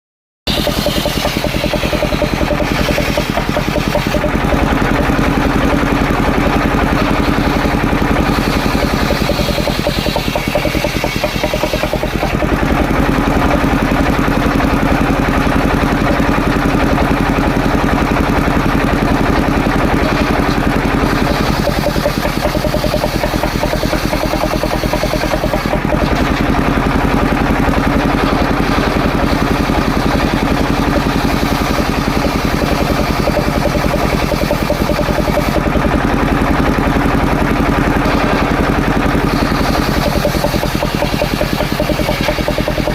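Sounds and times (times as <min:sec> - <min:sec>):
engine fast pulsing: 0:00.5 - 0:42.9
saw blade ripping wood: 0:00.5 - 0:42.9.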